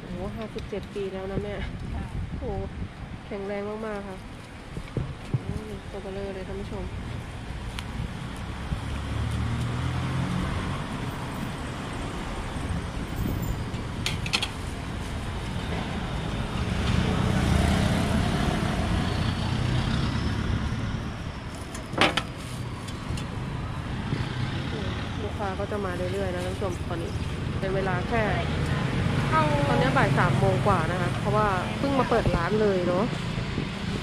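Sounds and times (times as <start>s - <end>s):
road traffic going by: 0.0s - 34.0s
vehicle engine: 5.3s - 34.0s.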